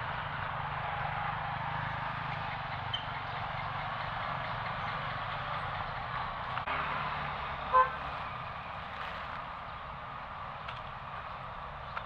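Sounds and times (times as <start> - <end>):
car engines and tyre noise: 0.0 - 12.0
motorcycle engines: 0.0 - 12.0.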